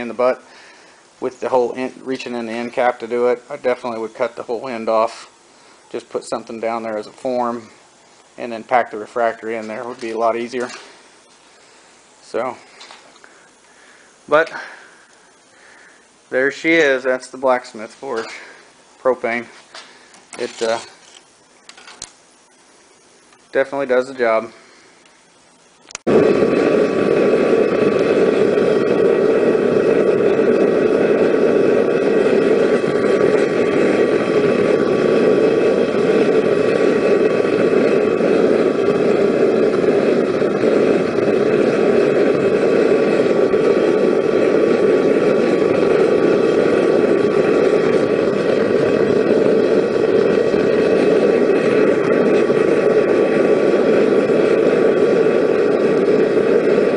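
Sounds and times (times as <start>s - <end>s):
propane burner rushing: 0.0s - 56.9s.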